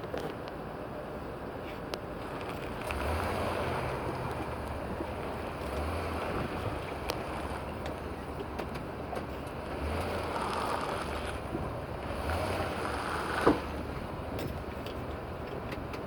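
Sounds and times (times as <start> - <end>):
steady rumble: 0.0 - 16.0
wind noise on microphone: 2.2 - 16.0.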